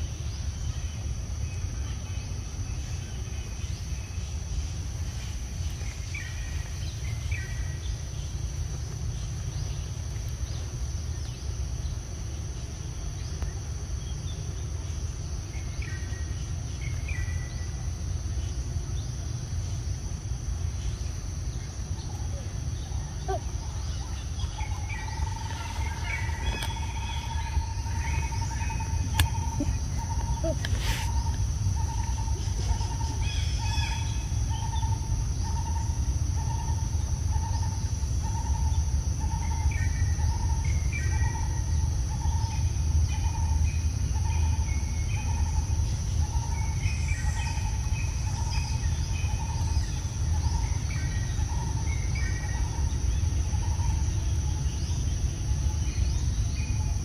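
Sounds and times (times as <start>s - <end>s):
birds chirping: 0.0s - 57.0s
high insect whine: 0.0s - 57.0s.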